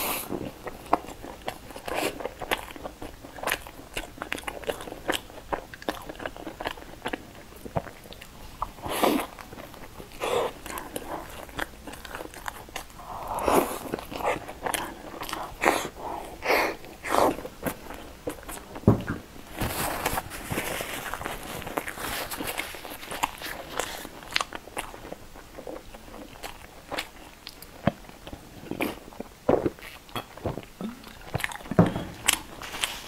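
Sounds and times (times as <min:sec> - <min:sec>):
crunchy biting and chewing: 0:00.0 - 0:18.7, 0:19.4 - 0:33.0.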